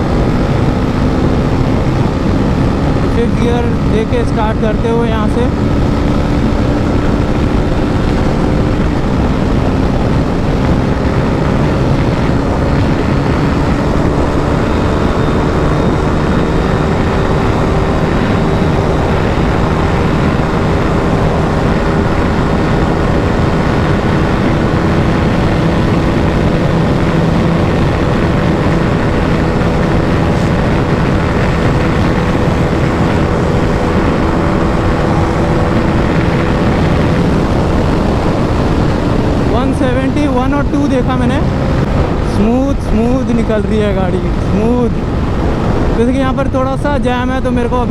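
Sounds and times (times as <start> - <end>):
motorcycle engine pulling hard: 0.0 - 47.9
wind noise rushing: 0.0 - 47.9.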